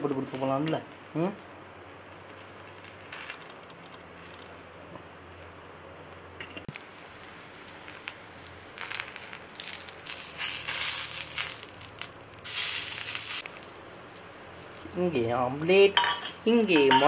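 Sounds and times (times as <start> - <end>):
egg sizzling in a pan: 0.0 - 4.6, 6.6 - 15.9.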